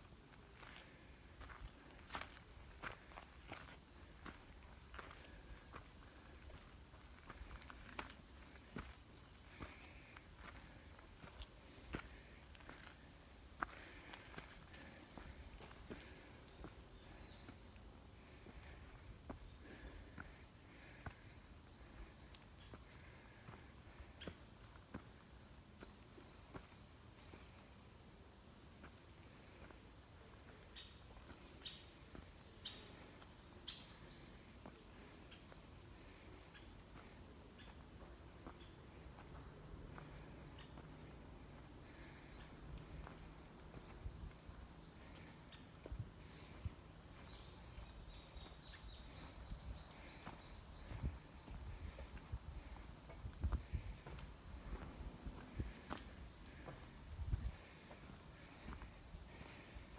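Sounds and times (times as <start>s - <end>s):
footsteps on a trail: 0.0s - 21.3s, 22.2s - 27.7s, 28.7s - 59.9s
crickets chirping: 0.0s - 59.9s.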